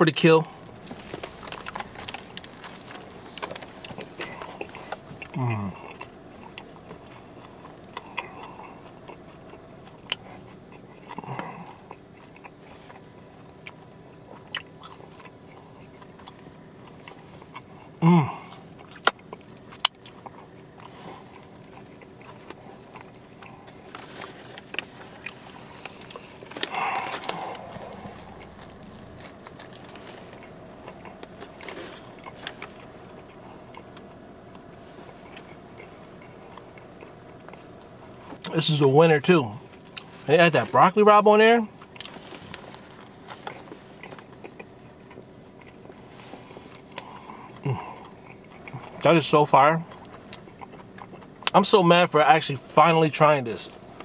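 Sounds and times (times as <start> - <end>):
person chewing a sandwich: 0.4 - 38.6, 39.6 - 40.3, 41.7 - 49.1, 49.8 - 51.6.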